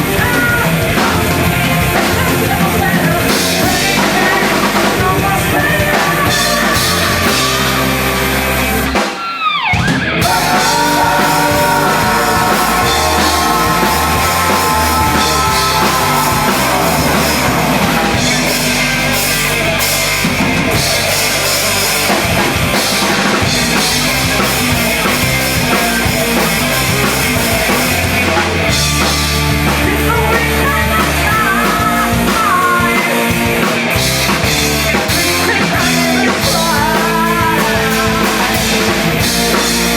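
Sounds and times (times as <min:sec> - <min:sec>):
yelled vocals: 0:00.0 - 0:09.0, 0:09.8 - 0:39.9
punk band playing loud: 0:00.0 - 0:39.9.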